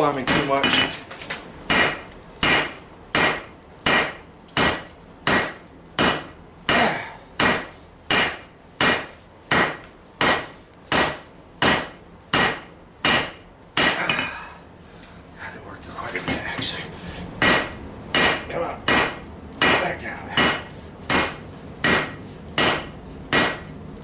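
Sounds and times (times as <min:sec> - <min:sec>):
hammer striking anvil: 0:00.2 - 0:01.0, 0:01.7 - 0:14.4, 0:17.4 - 0:23.7.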